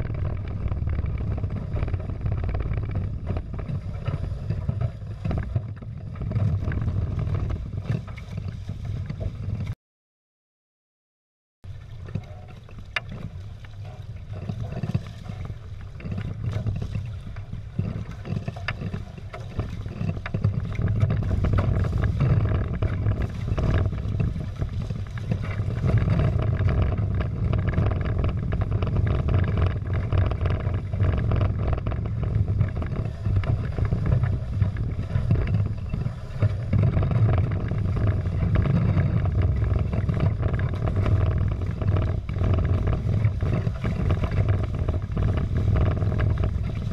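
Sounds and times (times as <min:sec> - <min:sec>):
water slapping against hulls: 0:00.0 - 0:09.8, 0:11.6 - 0:46.9
wind rumble on microphone: 0:00.0 - 0:09.8, 0:11.6 - 0:46.9.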